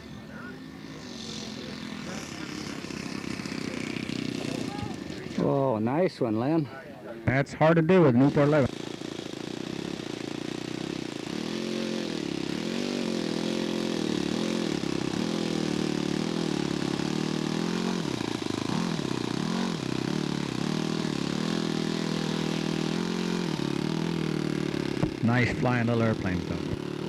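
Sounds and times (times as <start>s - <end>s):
model airplane engine in flight: 0.0s - 27.0s.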